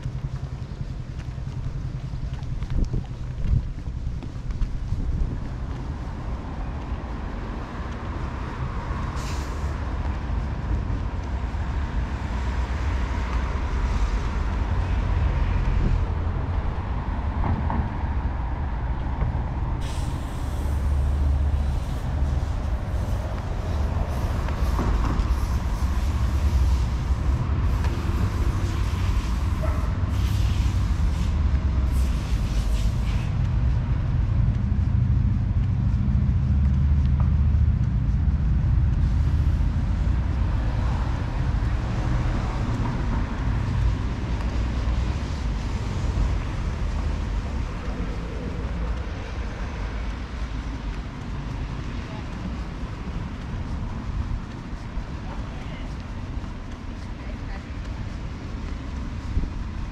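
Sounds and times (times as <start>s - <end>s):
waterfront ambience: 0.0s - 59.9s
wind rumbling on microphone: 0.0s - 59.9s.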